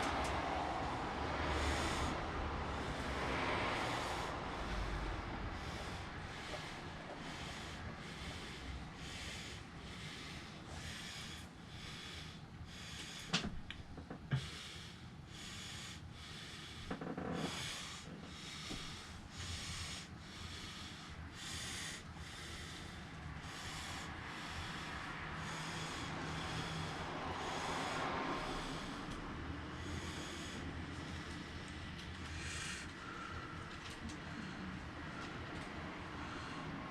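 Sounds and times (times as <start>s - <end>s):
pulsing hiss: 0.0s - 13.5s, 14.3s - 30.7s
bus engine and road rumble: 0.0s - 36.9s.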